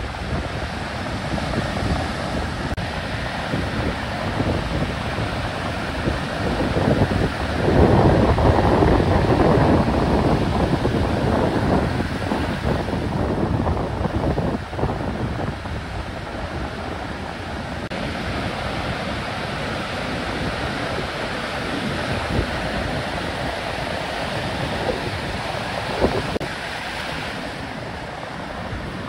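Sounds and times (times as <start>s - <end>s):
ocean surf breaking: 0.0s - 29.0s
wind rumbling on microphone: 0.0s - 29.0s.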